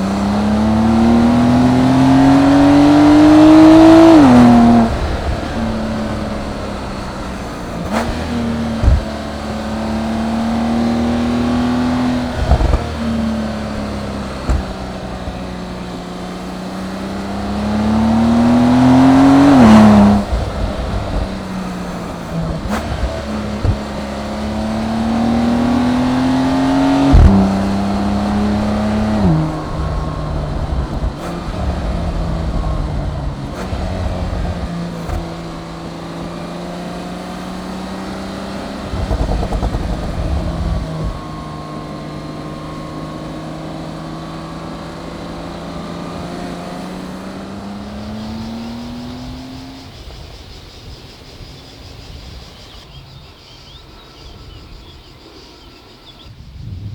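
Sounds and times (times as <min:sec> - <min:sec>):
car engine accelerating and shifting: 0:00.0 - 0:53.6.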